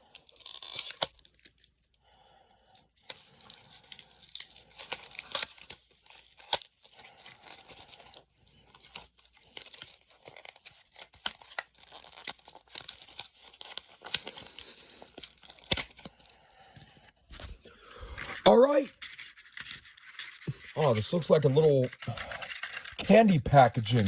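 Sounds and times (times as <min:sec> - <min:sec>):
packaging tearing and crackling: 0:00.2 - 0:01.7, 0:03.3 - 0:08.2, 0:08.8 - 0:16.1, 0:18.3 - 0:24.0.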